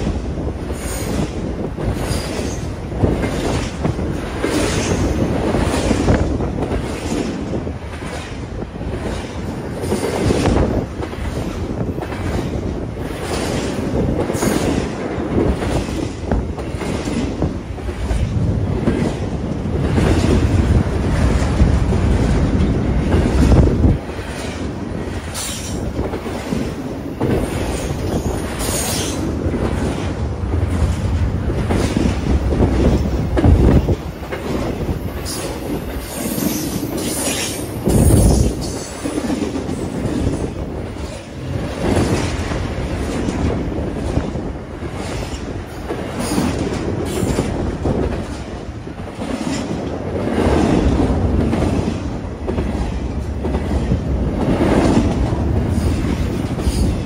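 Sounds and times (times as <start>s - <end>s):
freight train passing: 0.0s - 57.0s.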